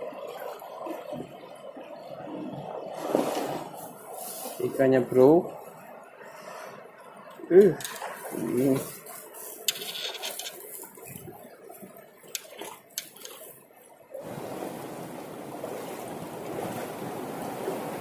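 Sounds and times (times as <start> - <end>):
water lapping against a hull: 0.0 - 18.0.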